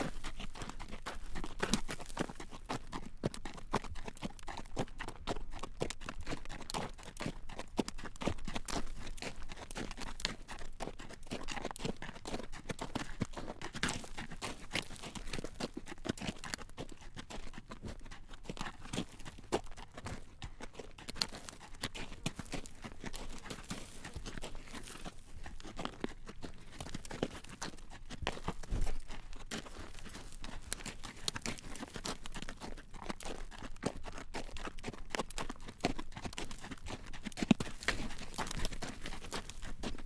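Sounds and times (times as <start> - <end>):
horse hooves clip-clopping on road: 0.0 - 40.0.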